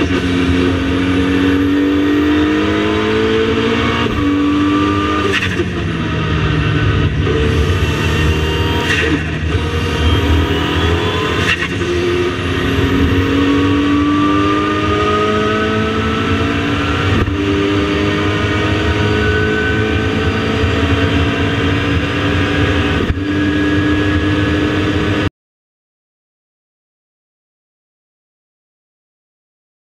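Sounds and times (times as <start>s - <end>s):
car engine at full throttle: 0.0s - 25.3s.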